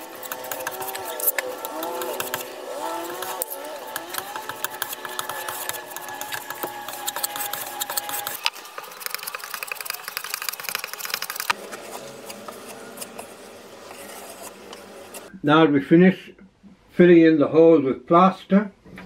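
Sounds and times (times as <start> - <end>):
spatula scraping and clicking: 0.0 - 15.3.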